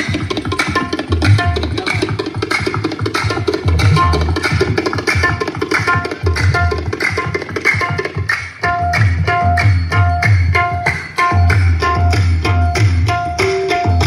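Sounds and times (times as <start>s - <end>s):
loud electronic music with bass: 0.0s - 14.0s.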